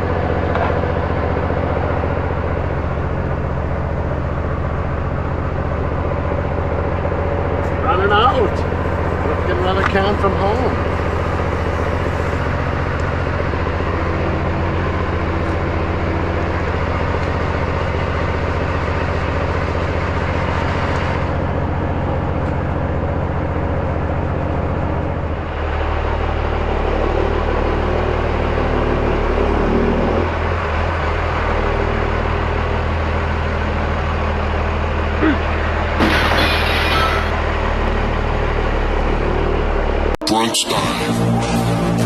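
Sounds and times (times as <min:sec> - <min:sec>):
road noise: 0:00.0 - 0:42.0
truck diesel engine running: 0:00.0 - 0:42.0.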